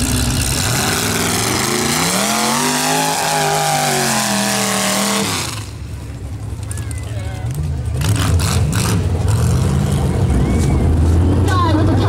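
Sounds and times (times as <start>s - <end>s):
truck engine revving hard: 0.0s - 6.3s, 7.4s - 12.0s.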